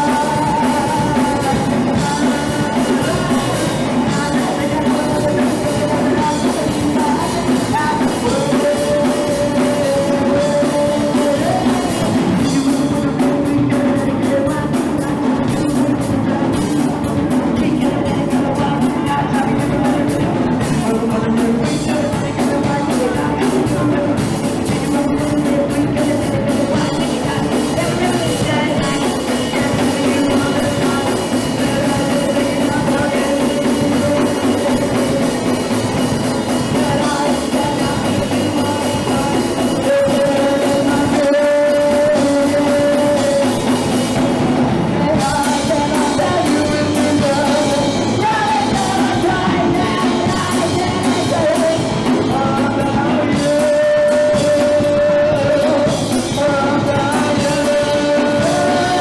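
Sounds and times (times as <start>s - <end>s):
punk rock band playing live: 0.0s - 59.0s.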